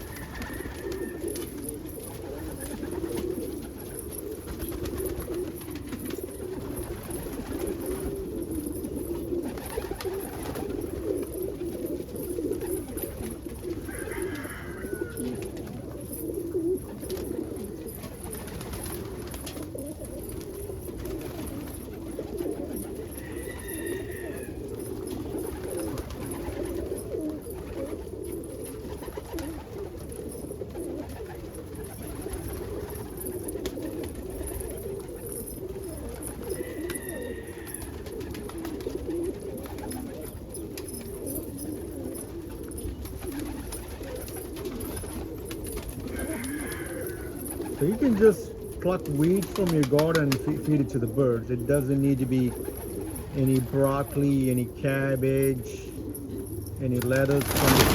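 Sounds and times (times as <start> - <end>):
pigeons cooing: 0.0 - 57.9.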